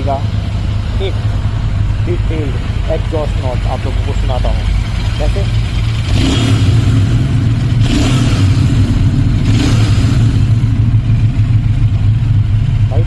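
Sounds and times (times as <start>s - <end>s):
engine throttle blips: 0.0s - 13.0s
motorcycle engine exhaust note: 0.0s - 13.0s.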